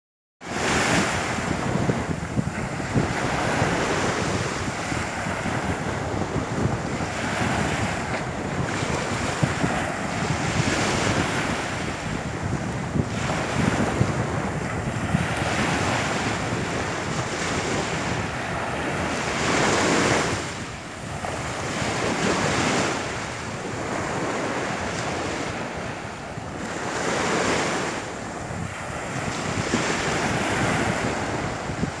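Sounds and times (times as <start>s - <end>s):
ocean surf on beach: 0.4s - 32.0s
wind buffeting microphone: 0.4s - 32.0s.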